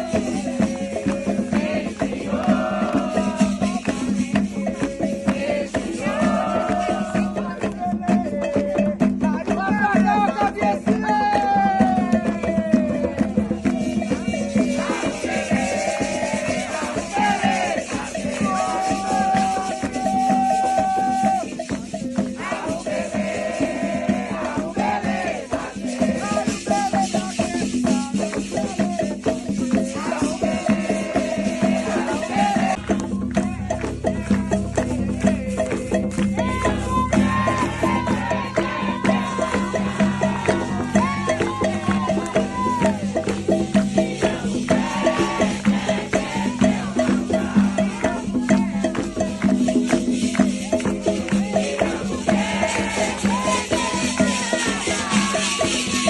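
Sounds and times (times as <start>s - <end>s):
shaken rattle: 0.0s - 56.0s
steady percussion: 0.0s - 56.0s
voices singing: 0.0s - 56.0s.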